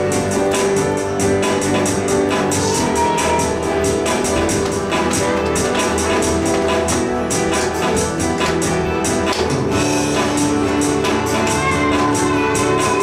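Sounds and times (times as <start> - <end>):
worship band music: 0.0 - 13.0.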